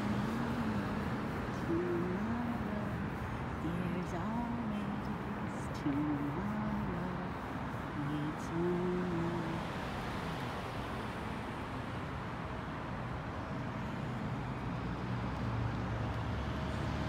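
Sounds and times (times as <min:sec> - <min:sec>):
cars rushing on road: 0:00.0 - 0:17.0.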